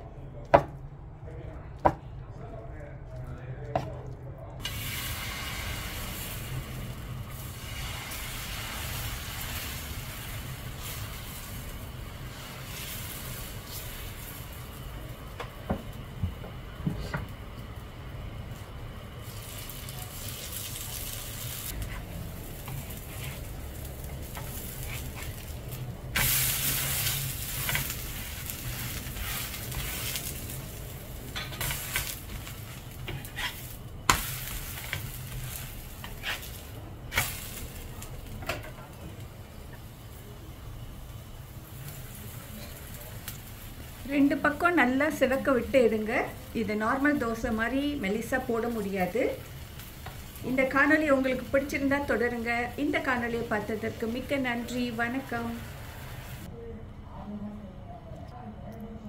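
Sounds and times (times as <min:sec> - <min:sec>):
batter sizzling on a hot griddle: 0:04.6 - 0:16.0, 0:18.6 - 0:56.5.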